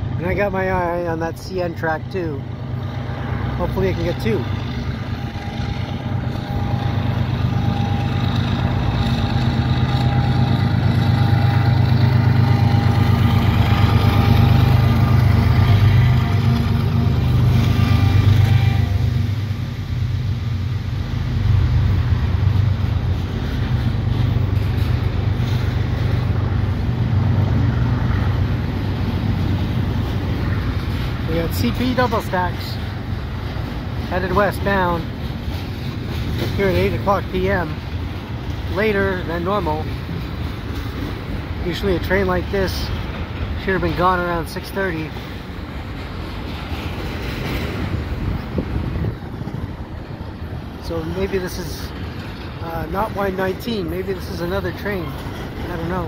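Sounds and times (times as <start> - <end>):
freight cars rumbling over rails: 0.0 - 56.0
locomotive engines droning: 0.0 - 56.0.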